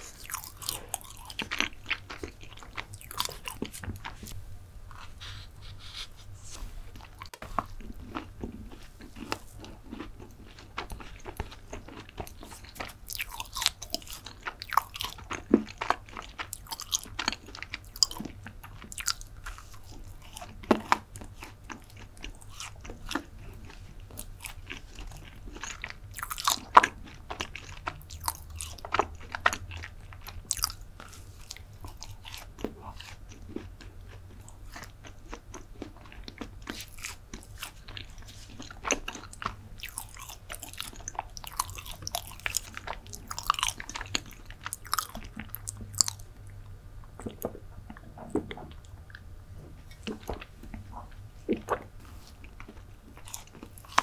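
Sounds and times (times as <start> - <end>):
chewing with wet mouth sounds: 0.0 - 6.2, 6.9 - 54.0.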